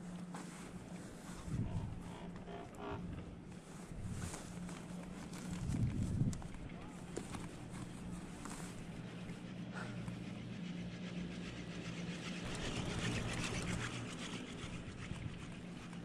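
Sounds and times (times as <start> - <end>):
chairlift mechanical hum: 0.0 - 16.0.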